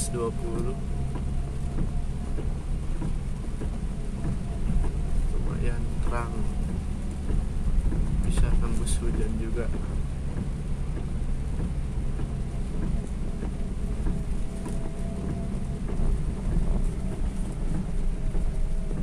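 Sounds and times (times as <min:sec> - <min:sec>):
car rumbling on wet road: 0:00.0 - 0:19.0
rain hiss: 0:00.0 - 0:19.0
raindrops ticking on windshield: 0:00.0 - 0:19.0.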